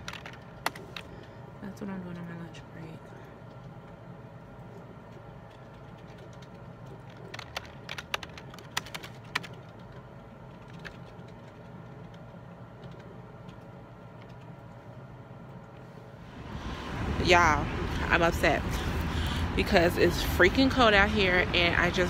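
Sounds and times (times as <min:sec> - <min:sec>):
office room hum: 0:00.0 - 0:22.0.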